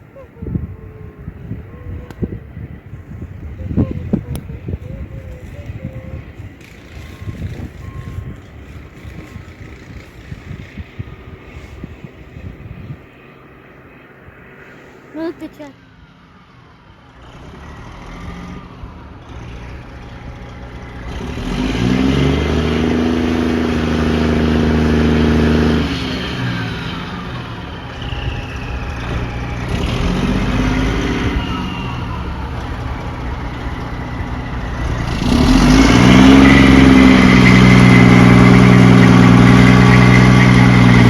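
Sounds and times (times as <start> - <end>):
heavy truck engine revving: 0.0 - 12.8, 17.1 - 41.0.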